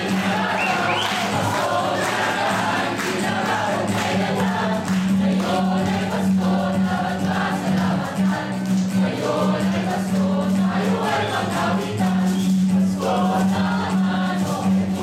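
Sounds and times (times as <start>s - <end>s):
mixed choir singing a carol: 0.0s - 15.0s
strummed acoustic guitar: 0.0s - 15.0s.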